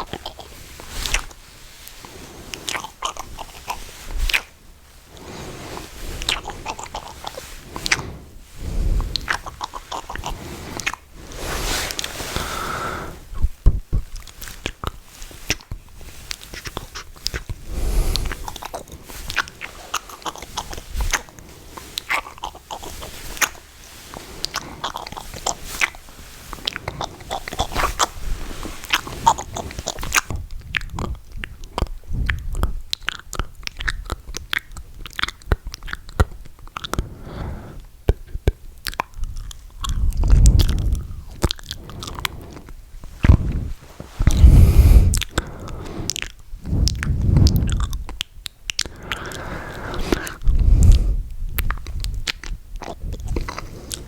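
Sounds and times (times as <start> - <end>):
wet lip and tongue clicks: 0.0 - 4.6, 6.2 - 8.1, 9.0 - 11.1, 13.3 - 28.2, 28.8 - 54.0
soft breathing: 0.0 - 32.8, 36.7 - 38.4, 39.2 - 54.0.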